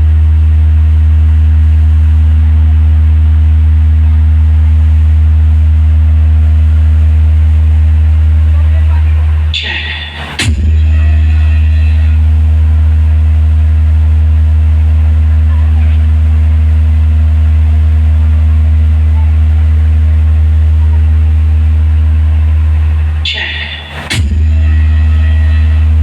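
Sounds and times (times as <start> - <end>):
low bass tone from subwoofers: 0.0 - 26.0.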